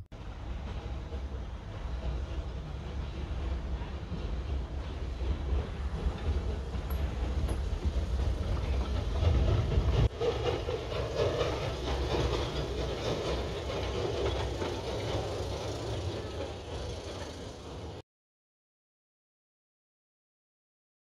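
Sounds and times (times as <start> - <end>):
train wheels clattering on track: 0.2 - 18.0.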